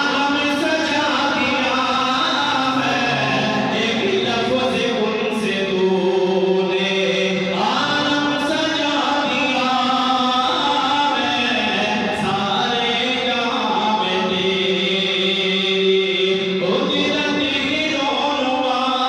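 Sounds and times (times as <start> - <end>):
man chanting unaccompanied: 0.0 - 19.0.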